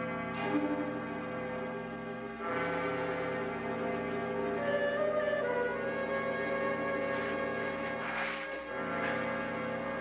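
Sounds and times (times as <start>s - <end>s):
slow melody over low tones: 0.0s - 10.0s.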